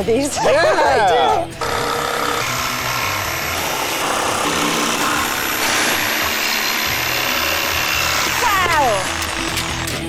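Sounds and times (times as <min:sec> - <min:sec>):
electric jigsaw cutting plywood: 0:01.6 - 0:10.0.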